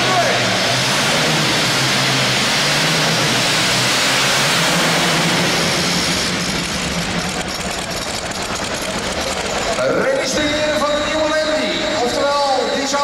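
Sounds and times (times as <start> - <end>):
tractor racing engine under load: 0.0 - 13.0.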